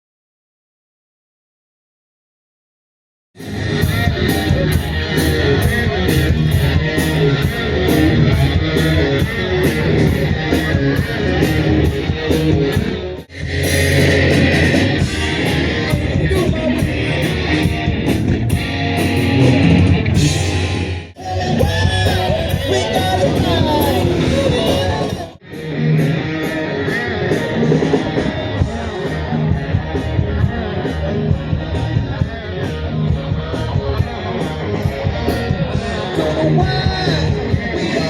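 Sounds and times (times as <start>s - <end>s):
drums with cymbal beat: 3.4s - 38.0s
electric guitar: 3.4s - 38.0s.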